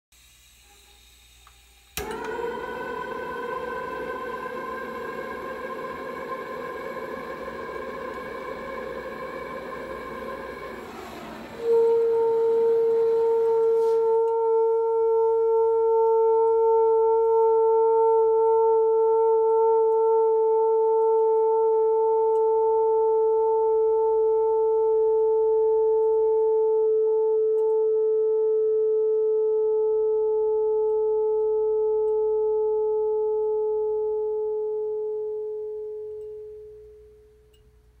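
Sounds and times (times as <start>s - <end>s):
tube singing pure tone: 0.2s - 37.7s.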